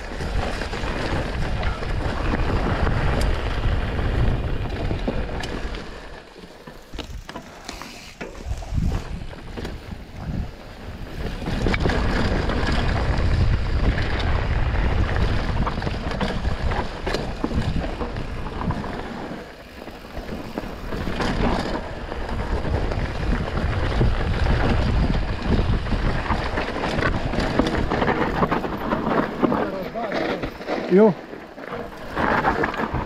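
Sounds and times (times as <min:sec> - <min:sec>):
wind buffeting microphone: 0:00.0 - 0:06.3, 0:08.4 - 0:31.1, 0:31.8 - 0:33.0
bike rattling over bumps: 0:00.0 - 0:33.0
bike tyres on dirt: 0:00.0 - 0:33.0.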